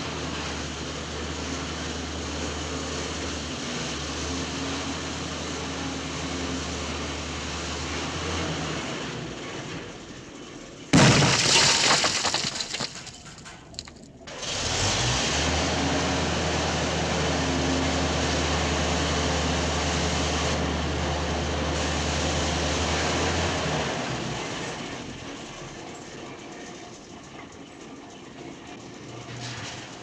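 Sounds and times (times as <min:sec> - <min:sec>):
heavy machinery engine drone: 0:00.0 - 0:11.4, 0:12.8 - 0:30.0.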